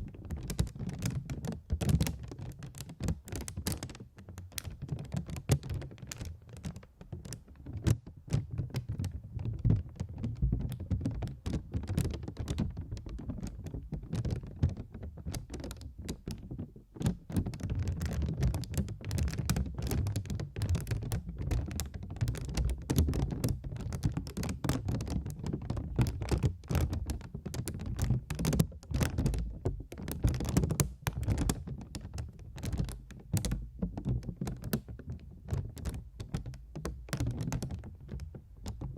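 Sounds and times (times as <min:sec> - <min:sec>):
fast tapping and clicking: 0:00.0 - 0:38.9.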